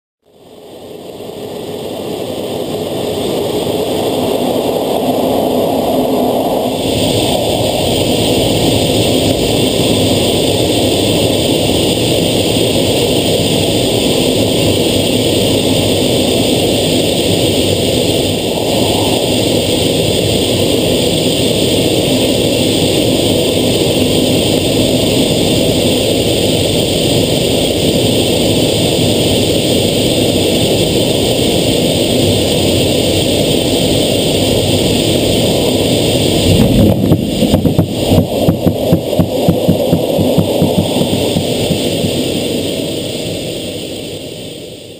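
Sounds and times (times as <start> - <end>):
jet engine and rushing air: 0.3 - 44.9.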